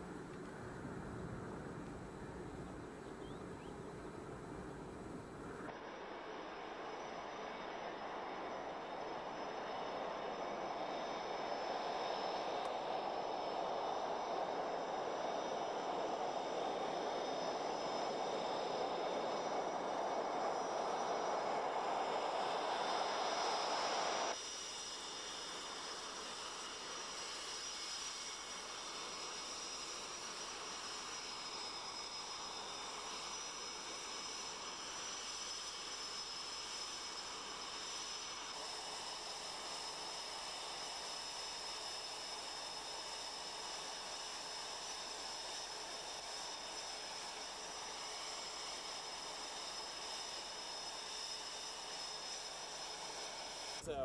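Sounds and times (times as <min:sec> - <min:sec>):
jet engine rush and turbine whine: 0:00.0 - 0:54.0.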